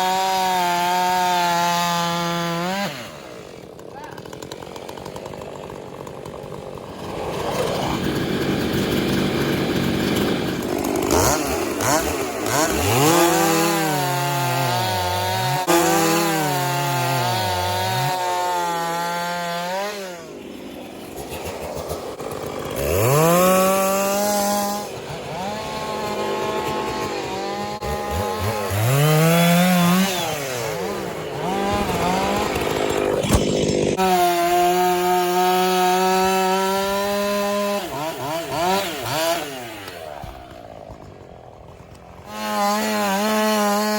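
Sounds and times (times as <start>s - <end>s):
chainsaw running hard: 0.0s - 43.9s.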